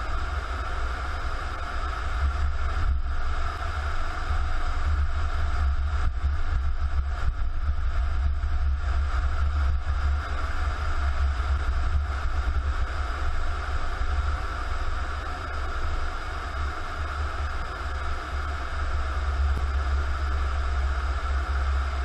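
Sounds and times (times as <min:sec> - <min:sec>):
road and engine noise: 0:00.0 - 0:22.0.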